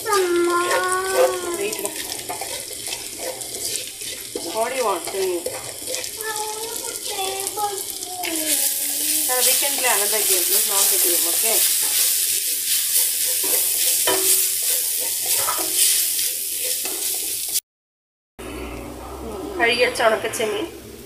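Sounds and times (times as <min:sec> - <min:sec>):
spices sizzling in oil: 0:00.0 - 0:17.6.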